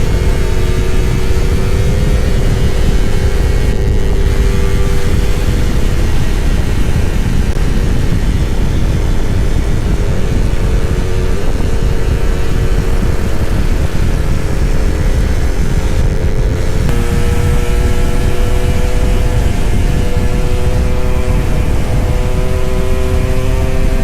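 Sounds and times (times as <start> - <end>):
two-stroke motorcycle engine: 0.0 - 24.0
wind rumble on microphone: 0.0 - 24.0.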